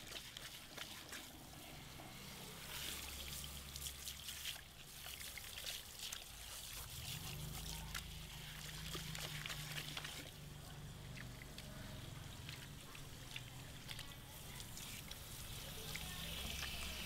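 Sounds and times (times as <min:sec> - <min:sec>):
shower sprayer water spattering: 0:00.0 - 0:10.4, 0:12.5 - 0:17.0
water trickling into drain: 0:00.0 - 0:17.0.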